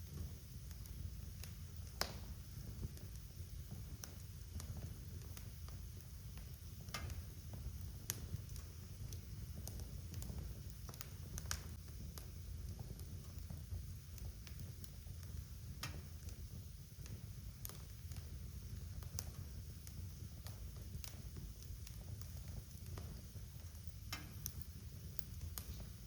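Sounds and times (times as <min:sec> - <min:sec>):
low fire rumble: 0:00.0 - 0:26.0
wood fire crackling: 0:00.0 - 0:26.0.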